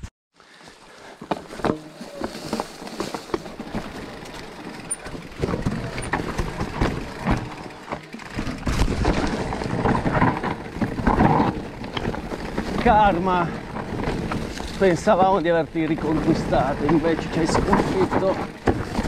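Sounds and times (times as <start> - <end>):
tyres crunching over stones: 0.5 - 19.0
bike knocking and rattling: 1.1 - 19.0.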